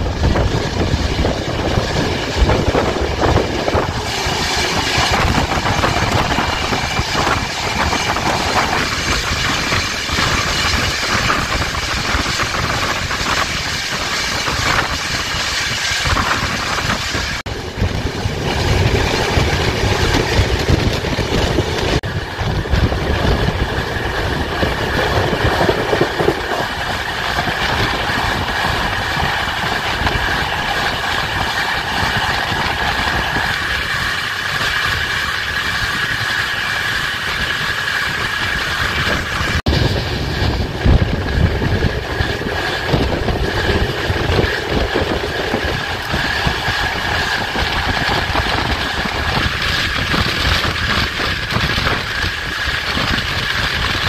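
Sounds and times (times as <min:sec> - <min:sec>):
passing train rushing: 0:00.0 - 0:54.0.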